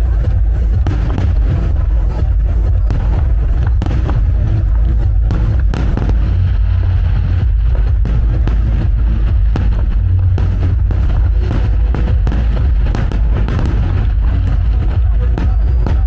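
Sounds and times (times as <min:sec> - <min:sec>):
fireworks bangs and crackles: 0:00.0 - 0:16.0
heavy low rumble: 0:00.0 - 0:16.0
music playing: 0:00.0 - 0:16.0.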